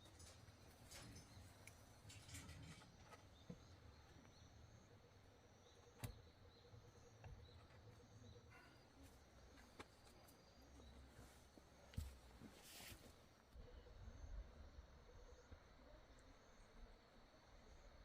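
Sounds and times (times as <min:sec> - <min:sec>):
faint scattered ticks: 0:00.0 - 0:18.0.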